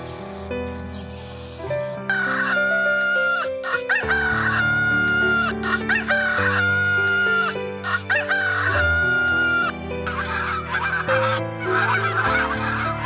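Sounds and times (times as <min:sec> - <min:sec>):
soft background music: 0:00.0 - 0:13.0
rooster crowing: 0:02.1 - 0:13.0.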